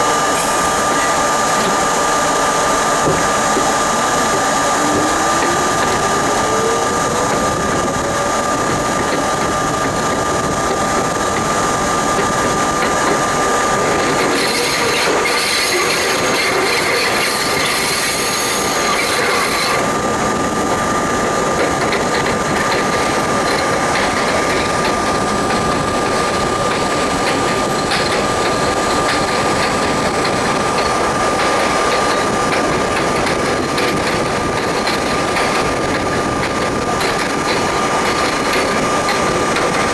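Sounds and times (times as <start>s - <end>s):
steady high hum: 0.0s - 39.9s
subway train motor whine: 0.0s - 39.9s
wheels squealing on rails: 0.0s - 39.9s.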